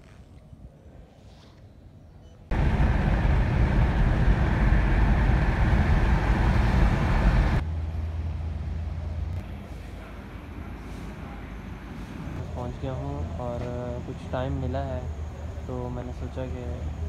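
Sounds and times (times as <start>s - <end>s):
car road and engine noise: 2.5s - 17.0s.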